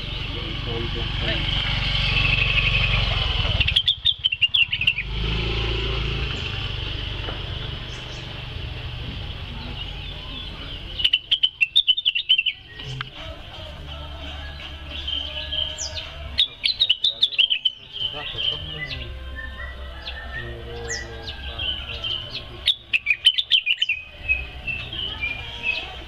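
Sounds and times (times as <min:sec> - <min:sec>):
bird chattering song: 0:00.0 - 0:26.0.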